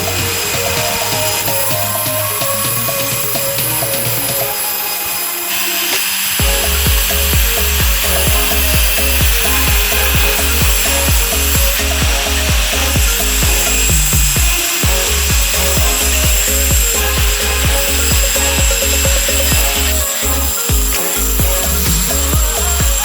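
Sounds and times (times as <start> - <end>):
background music with beat: 0.0 - 23.0
grinder grinding steel: 0.0 - 23.0.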